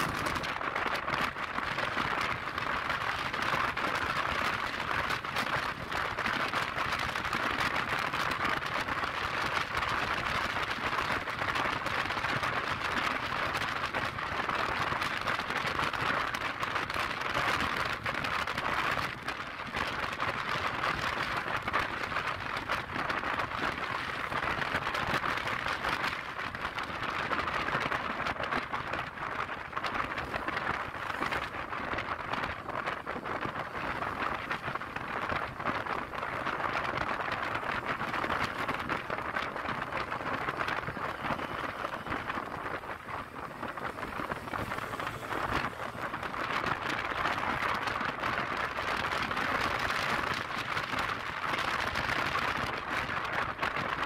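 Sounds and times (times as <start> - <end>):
wind and road noise rushing: 0.0 - 54.0.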